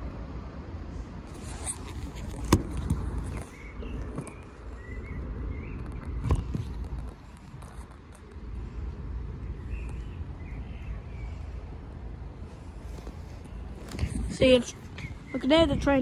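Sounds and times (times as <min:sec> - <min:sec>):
low outdoor rumble: 0:00.0 - 0:16.0
small birds chirping: 0:01.4 - 0:16.0.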